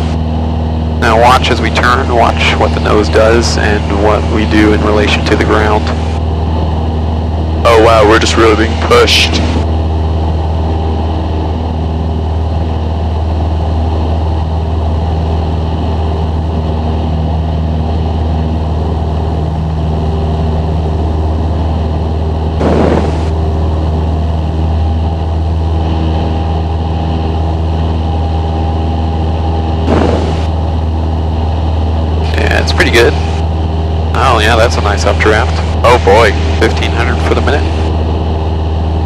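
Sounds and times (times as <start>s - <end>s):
propeller plane engine droning: 0.0s - 39.0s.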